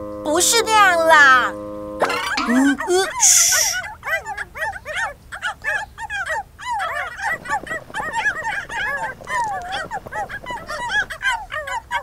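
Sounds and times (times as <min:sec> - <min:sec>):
puppies yipping and whimpering: 0:02.1 - 0:12.0.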